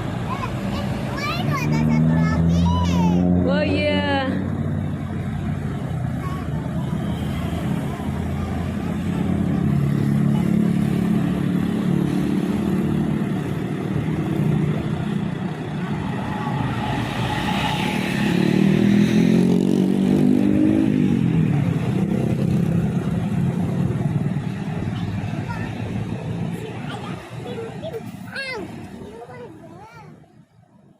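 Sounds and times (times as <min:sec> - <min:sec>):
vehicle engine revving: 0:00.0 - 0:27.5.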